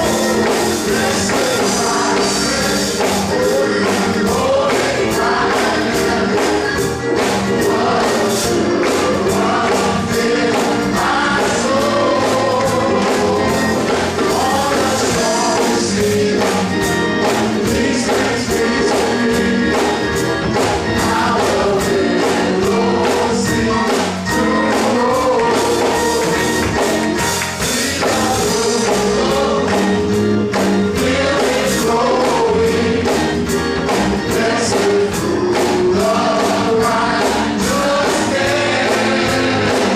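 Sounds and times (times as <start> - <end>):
band accompaniment: 0.0 - 39.9
gospel choir singing: 0.0 - 39.9
steady percussion beat: 0.0 - 39.9.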